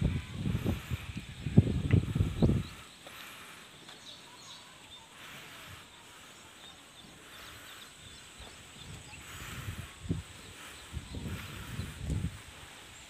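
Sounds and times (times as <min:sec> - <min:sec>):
air and leaves hissing: 0:00.0 - 0:13.0
faint bird chirps: 0:00.7 - 0:13.0.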